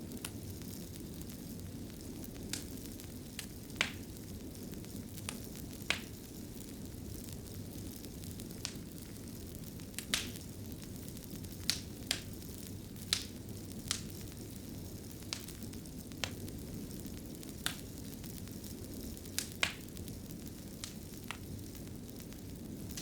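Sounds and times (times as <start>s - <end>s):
fire crackling and popping: 0.0s - 23.0s
flames rumbling: 0.0s - 23.0s.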